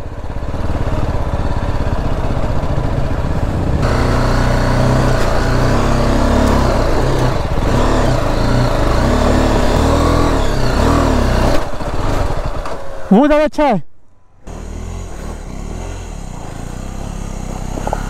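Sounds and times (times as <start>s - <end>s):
motorcycle engine revving: 0.0s - 13.1s, 14.4s - 18.0s.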